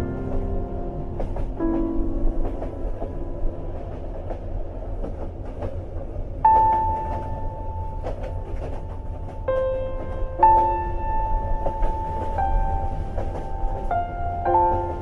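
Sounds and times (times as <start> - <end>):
rail clicks: 0.0 - 15.0
train carriage low rumble: 0.0 - 15.0.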